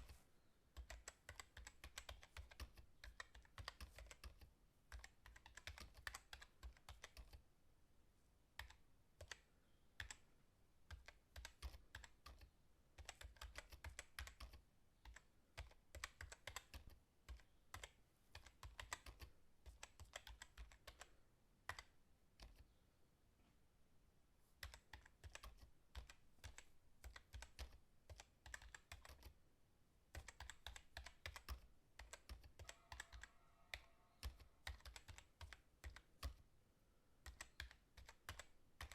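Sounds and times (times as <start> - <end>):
keyboard typing: 0.0 - 7.4, 8.6 - 22.8, 24.6 - 29.4, 30.0 - 36.5, 37.2 - 38.9.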